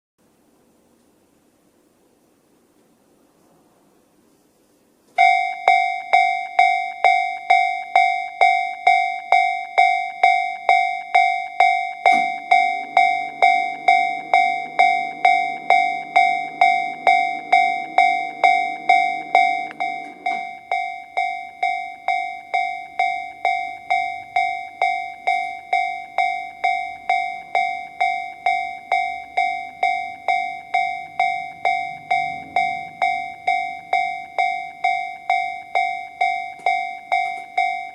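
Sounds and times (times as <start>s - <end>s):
electronic crossing bell ding: 5.2s - 37.9s.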